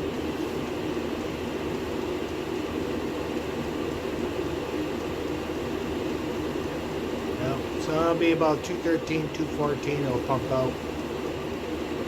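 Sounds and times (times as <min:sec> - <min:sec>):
air heater blowing air: 0:00.0 - 0:12.0.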